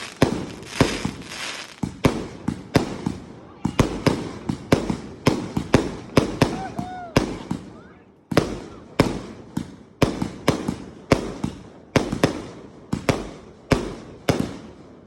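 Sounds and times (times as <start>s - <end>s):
fireworks bangs echoing: 0.0s - 7.7s, 8.3s - 14.7s.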